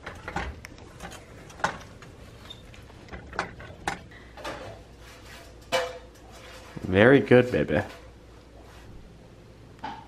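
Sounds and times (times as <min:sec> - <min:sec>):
spatula scraping frying pan: 0:00.0 - 0:08.9.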